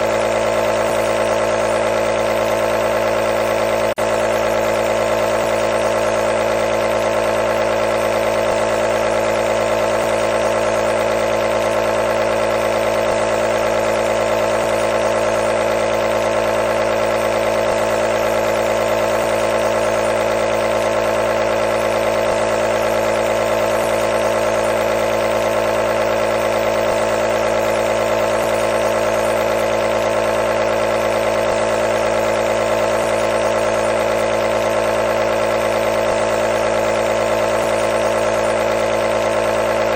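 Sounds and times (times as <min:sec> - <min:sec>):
nebulizer buzzing hum: 0:00.0 - 0:39.9.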